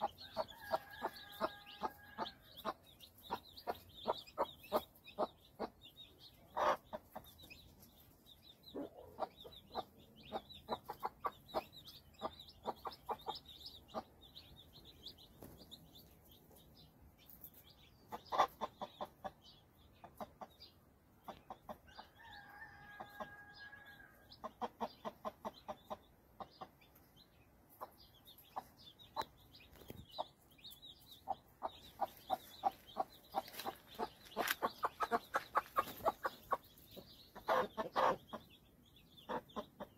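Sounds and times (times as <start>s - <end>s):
hen clucking: 0.0s - 16.2s, 17.7s - 39.9s
chicks peeping: 0.0s - 39.9s.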